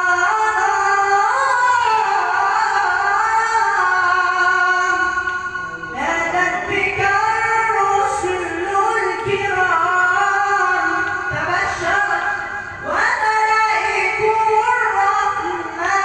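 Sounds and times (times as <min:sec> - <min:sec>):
high voice chanting: 0:00.0 - 0:16.0.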